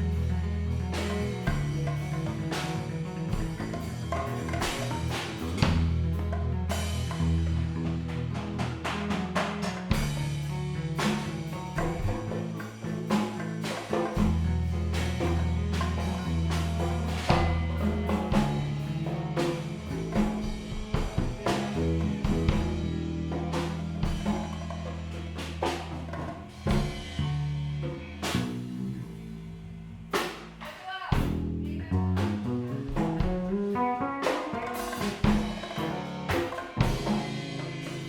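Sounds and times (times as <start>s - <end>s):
sustained bass notes: 0.0s - 30.6s, 31.2s - 38.0s
drum kit groove: 0.0s - 38.0s.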